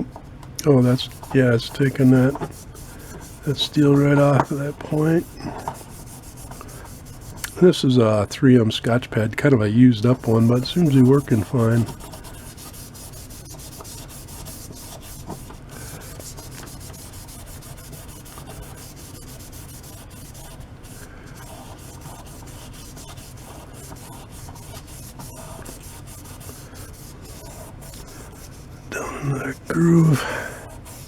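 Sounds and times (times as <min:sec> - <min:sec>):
scouring pad scrubbing stone: 0:00.8 - 0:07.5, 0:10.0 - 0:28.7, 0:29.8 - 0:31.0.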